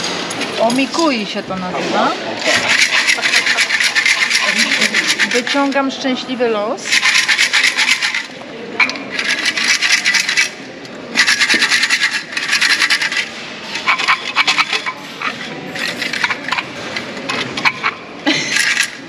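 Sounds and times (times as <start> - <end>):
wooden sticks rattling in metal canister: 1.9 - 5.8, 6.8 - 19.0.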